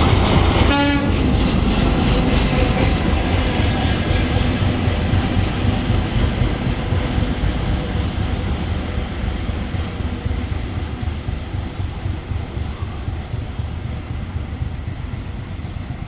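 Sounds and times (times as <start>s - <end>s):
diesel locomotive rumbling: 0.0s - 16.0s
rail noise: 0.0s - 16.0s.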